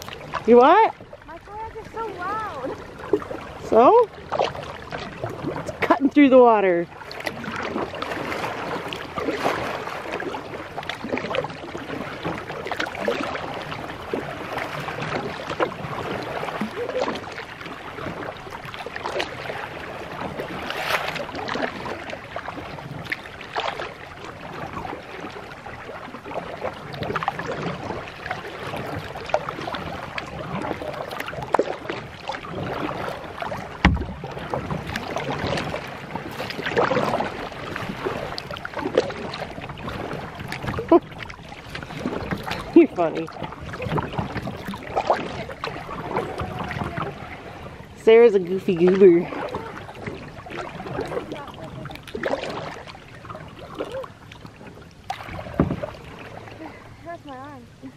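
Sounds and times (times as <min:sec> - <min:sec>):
paddle splashes: 0:00.0 - 0:57.9
water rushing at kayak bow: 0:00.0 - 0:57.9.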